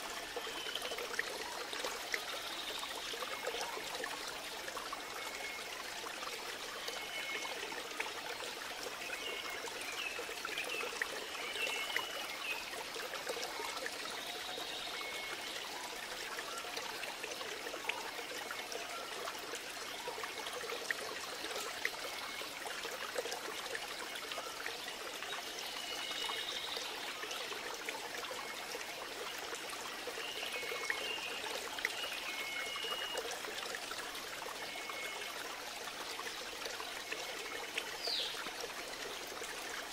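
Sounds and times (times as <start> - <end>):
trickling running water: 0.0 - 39.9.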